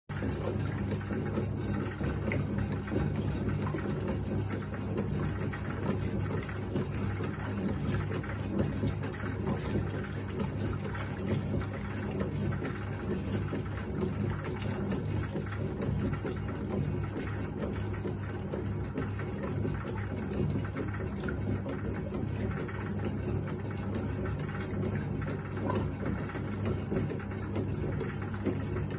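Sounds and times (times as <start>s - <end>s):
washing machine motor hum: 0.0s - 28.9s
water churning and splashing: 0.1s - 28.9s.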